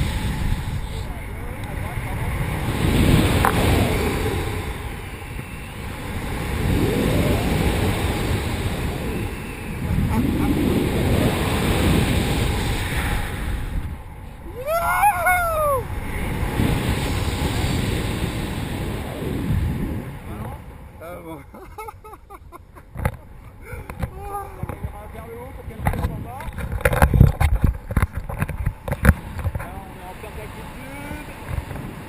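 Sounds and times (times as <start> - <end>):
wind rushing over microphone: 0.0 - 21.2, 23.8 - 32.0.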